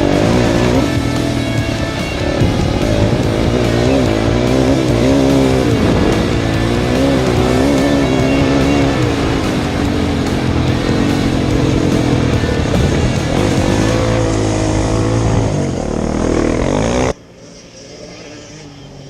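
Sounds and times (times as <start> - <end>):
music playing: 0.0 - 17.1
vehicle engine revving: 0.0 - 19.0.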